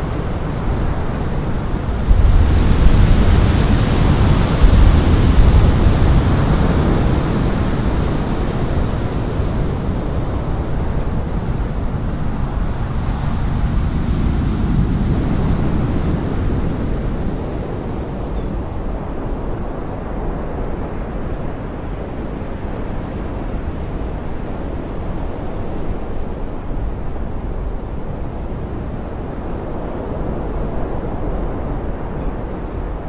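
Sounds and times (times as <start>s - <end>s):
heavy surf roaring: 0.0s - 33.0s
wind: 0.0s - 33.0s.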